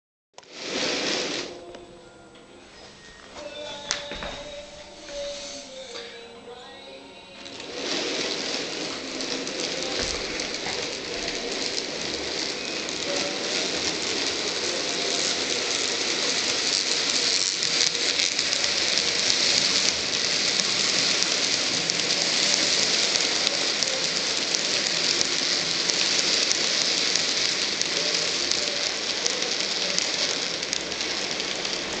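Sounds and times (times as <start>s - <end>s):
model train motor: 0.4s - 1.6s, 7.4s - 32.0s
model train wheels clicking on rails: 0.4s - 1.6s, 7.4s - 32.0s.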